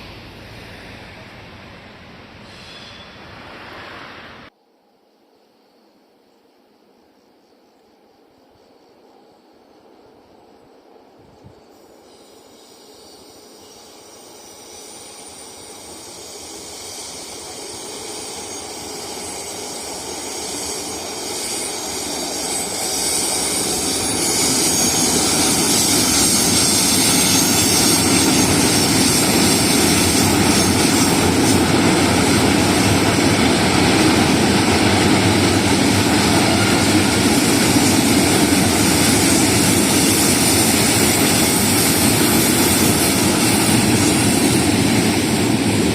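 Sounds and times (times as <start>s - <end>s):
train rushing past: 0.0s - 4.6s, 9.8s - 45.9s.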